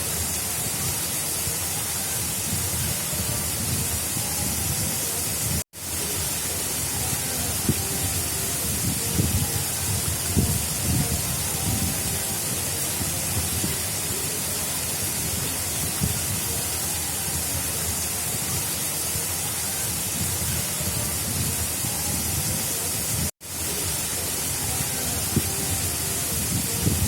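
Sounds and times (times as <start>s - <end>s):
water rushing along a channel: 0.0s - 27.0s.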